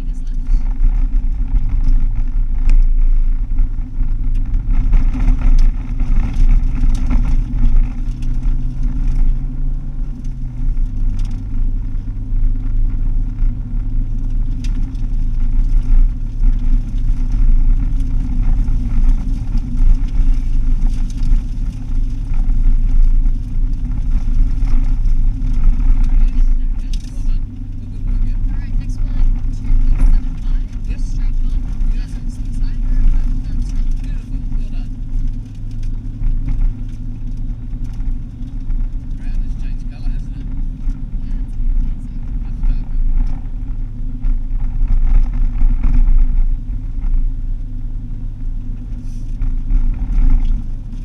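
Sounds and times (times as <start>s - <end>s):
car engine and tyre drone: 0.0s - 51.0s.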